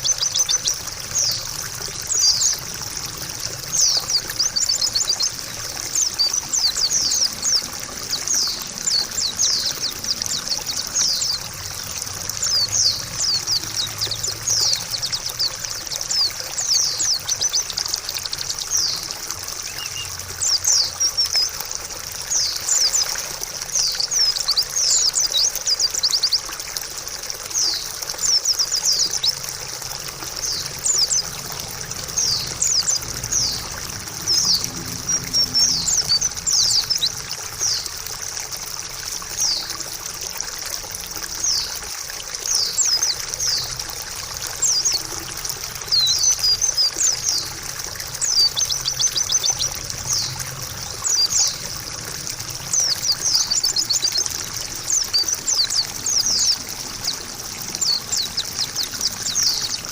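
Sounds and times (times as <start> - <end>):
bird twittering chirps: 0.0 - 26.6, 27.5 - 38.0, 39.3 - 39.9, 42.5 - 59.9
water trickling: 0.0 - 59.9.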